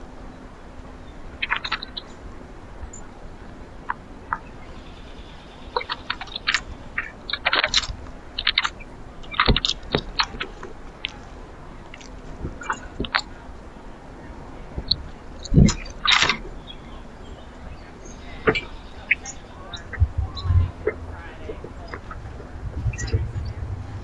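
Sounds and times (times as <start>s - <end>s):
small birds chirping: 1.0s - 24.0s.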